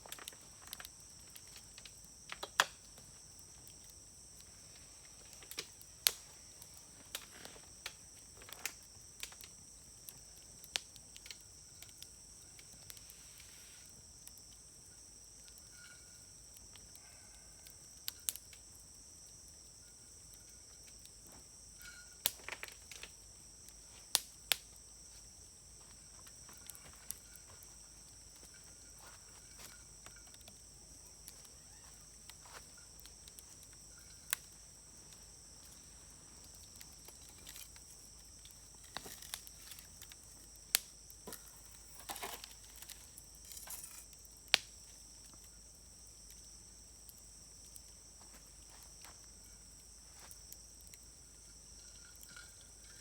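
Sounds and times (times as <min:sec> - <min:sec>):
high insect trill: 0:00.0 - 0:53.0
wood fire crackling: 0:00.0 - 0:53.0.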